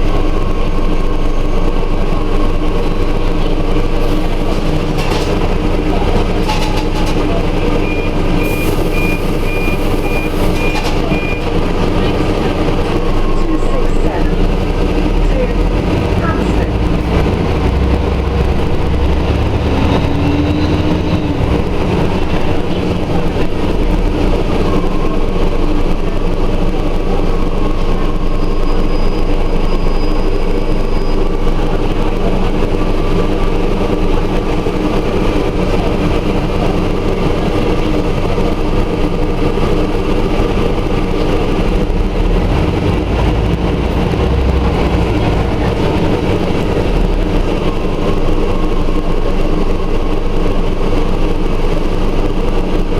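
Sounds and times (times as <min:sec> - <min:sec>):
bus diesel engine droning: 0:00.0 - 0:52.9
road noise: 0:00.0 - 0:52.9.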